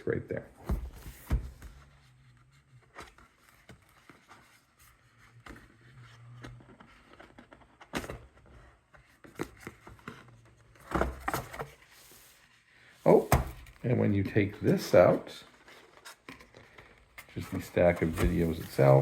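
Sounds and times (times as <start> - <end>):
plastic cases and cardboard handled: 0.3 - 19.0.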